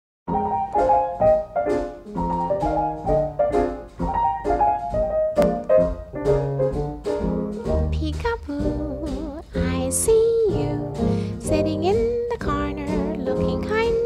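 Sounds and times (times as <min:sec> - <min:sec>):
piano chords over a steady beat: 0:00.3 - 0:14.0.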